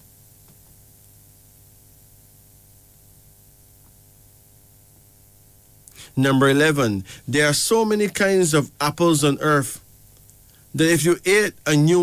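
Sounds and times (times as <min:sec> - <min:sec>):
faint electrical hum with hiss: 0:00.0 - 0:12.0.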